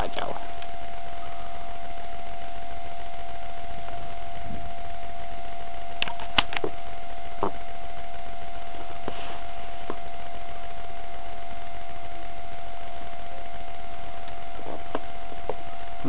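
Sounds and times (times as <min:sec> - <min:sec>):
steady tone: 0:00.0 - 0:16.0.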